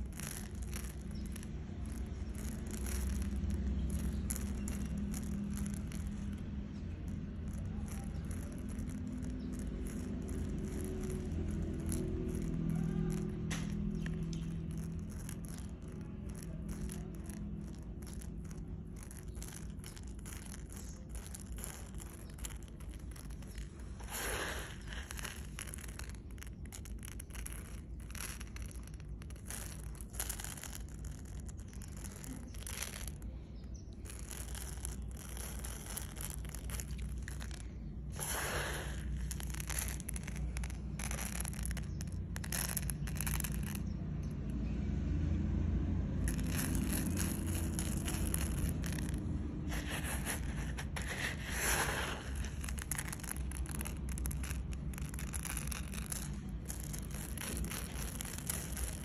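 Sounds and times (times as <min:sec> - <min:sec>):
low steady hum: 0:00.0 - 0:59.0
rice grains falling: 0:00.0 - 0:59.0.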